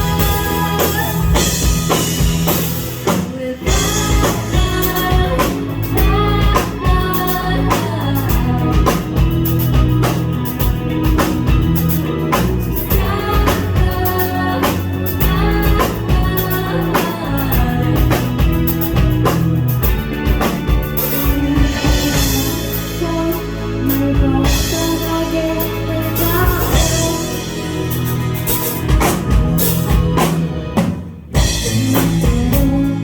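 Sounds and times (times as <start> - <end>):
person singing: 0.0 - 9.9, 12.6 - 20.4, 21.0 - 29.1, 31.4 - 33.0
drum kit beat: 0.0 - 33.0
electric bass: 0.0 - 33.0
electric guitar: 0.0 - 33.0.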